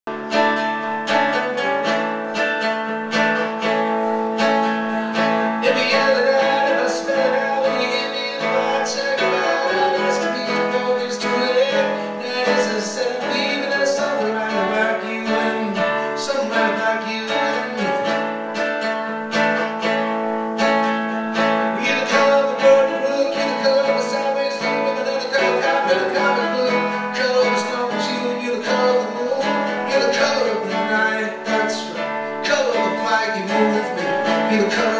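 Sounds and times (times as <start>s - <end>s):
acoustic guitar strummed: 0.0s - 34.9s
man singing: 0.1s - 34.9s.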